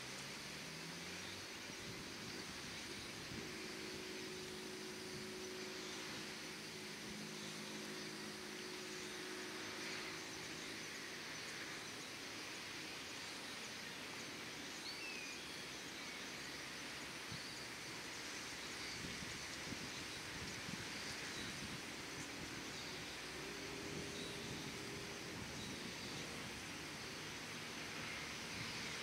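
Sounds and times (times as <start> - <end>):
steady airy hiss: 0.0 - 29.0.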